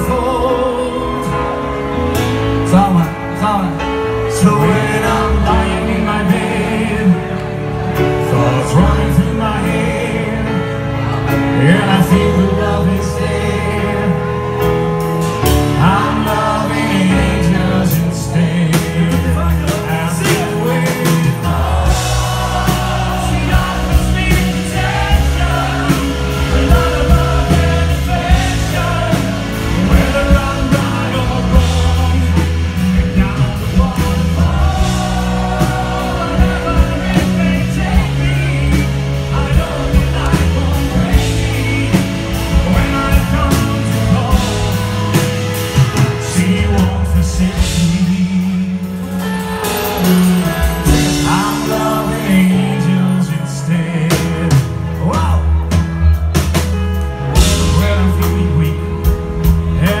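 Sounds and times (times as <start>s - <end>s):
live rock band: 0.0s - 60.0s
male lead vocal: 0.0s - 60.0s.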